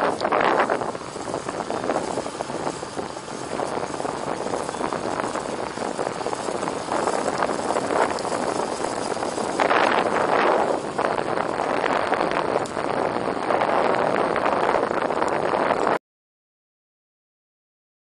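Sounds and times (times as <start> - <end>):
wind and road noise from vehicle: 0.0 - 16.0.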